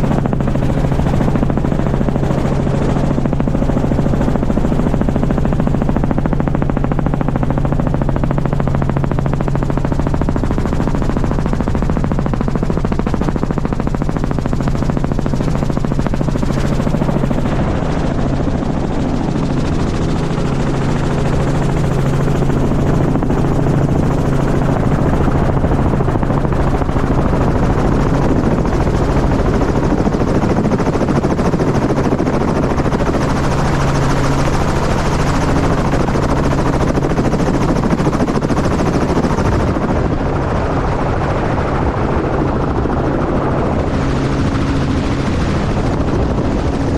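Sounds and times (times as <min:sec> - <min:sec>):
helicopter engine tone: 0:00.0 - 0:46.9
helicopter rotor blades chopping: 0:00.0 - 0:46.9.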